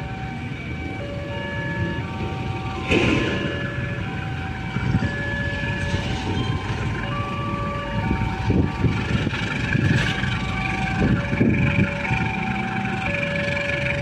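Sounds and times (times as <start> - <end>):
diesel locomotive rumble: 0.0 - 14.0
idling engines: 0.0 - 14.0.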